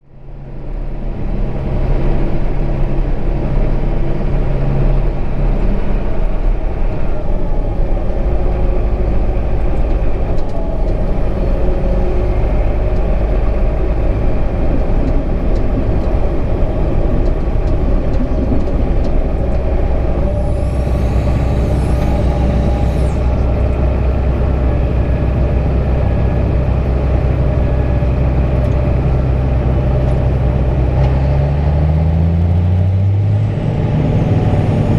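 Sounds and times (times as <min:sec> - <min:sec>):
heavy diesel machinery rumbling: 0:00.0 - 0:34.9.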